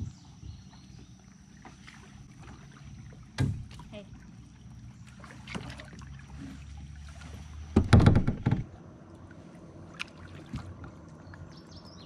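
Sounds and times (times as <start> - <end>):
kayak paddle strokes: 0.0 - 11.2
kayak bumping and rumbling: 0.0 - 12.0
water against kayak: 0.0 - 12.0.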